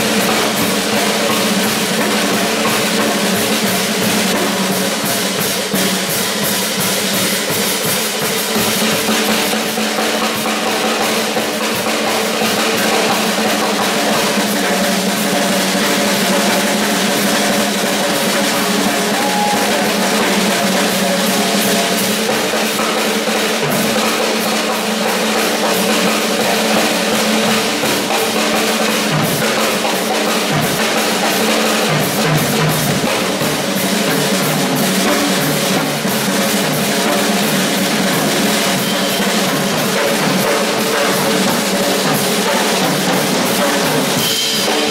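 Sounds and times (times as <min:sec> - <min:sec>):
fast dense drumming: 0:00.0 - 0:44.9.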